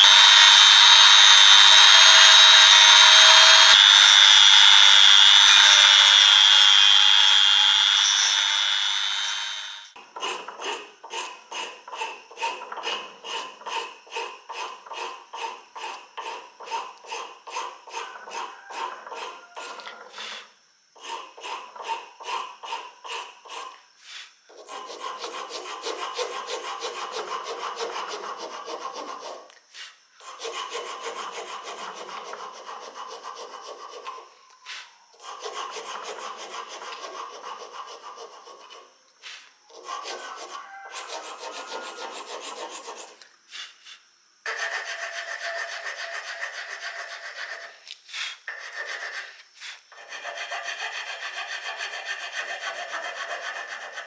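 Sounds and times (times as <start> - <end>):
hand filing or sanding: 0.0 - 20.4, 21.0 - 54.0.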